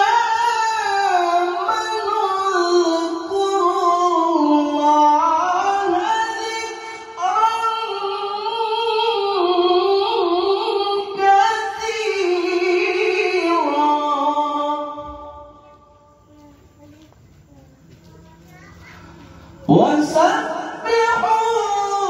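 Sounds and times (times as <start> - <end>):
man chanting into a microphone: 0.0 - 15.4, 19.7 - 22.0.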